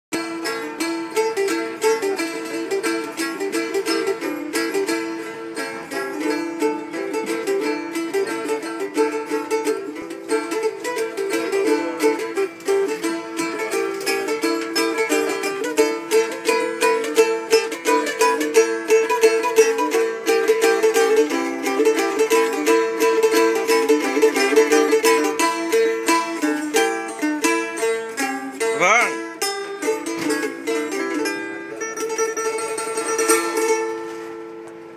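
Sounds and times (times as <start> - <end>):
plucked lute melody: 0.1 - 34.9.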